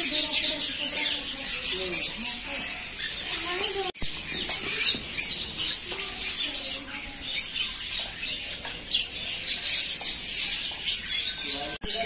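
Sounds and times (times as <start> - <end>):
small birds chirping and squawking: 0.0 - 12.0.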